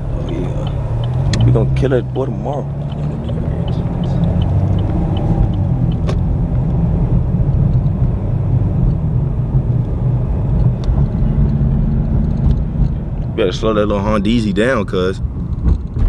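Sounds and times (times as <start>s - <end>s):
engine and road noise: 0.0s - 16.0s.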